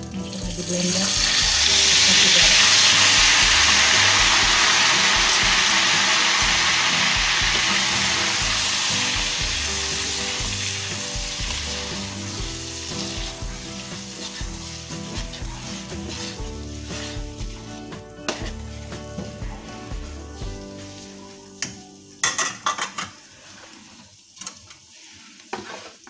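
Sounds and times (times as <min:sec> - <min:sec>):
paste sizzling in hot oil: 0:00.2 - 0:26.0.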